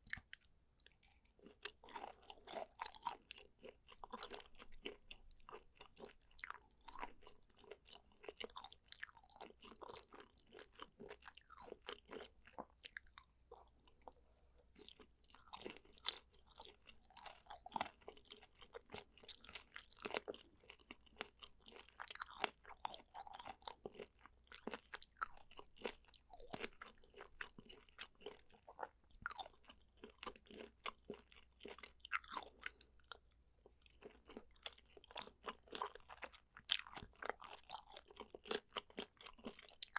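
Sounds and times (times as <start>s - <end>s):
close chewing: 0.0s - 39.9s.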